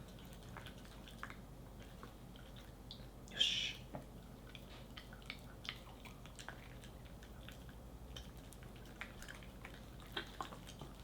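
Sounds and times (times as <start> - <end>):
dog chewing wetly: 0.0 - 11.0
low steady hum: 0.0 - 11.0.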